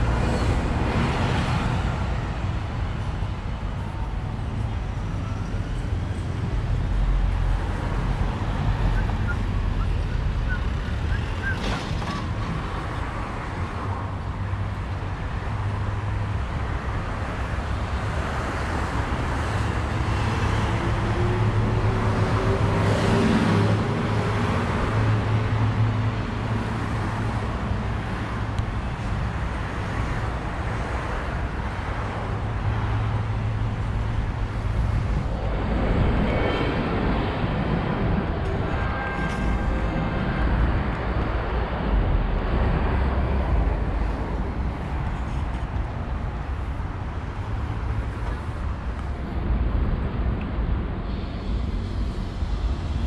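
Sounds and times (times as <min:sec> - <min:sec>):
rumble of city traffic: 0:00.0 - 0:53.0.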